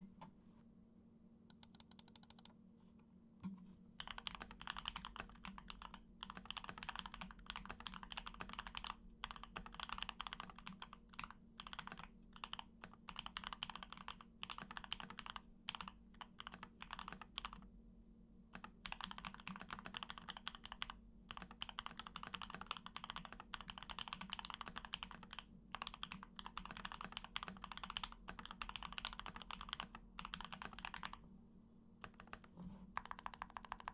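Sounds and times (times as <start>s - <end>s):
fast typing on mechanical keyboard: 1.5s - 2.5s, 4.0s - 17.7s, 18.5s - 31.2s, 32.0s - 33.9s.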